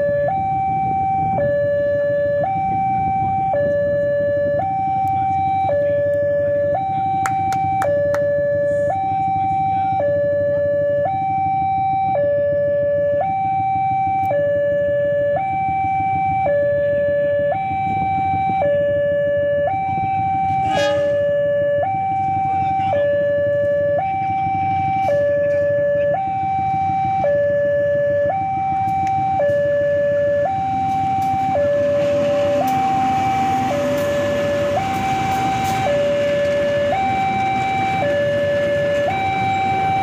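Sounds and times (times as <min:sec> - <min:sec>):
two-tone crossing alarm: 0:00.0 - 0:40.0.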